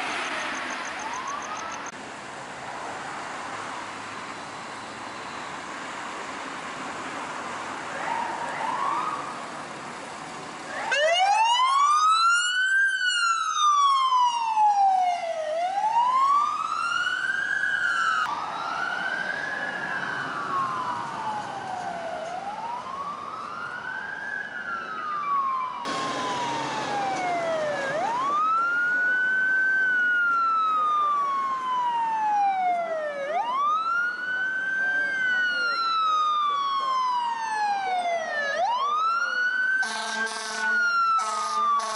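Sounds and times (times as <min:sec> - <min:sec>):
emergency vehicle siren wailing: 0:00.0 - 0:02.0, 0:07.7 - 0:41.9.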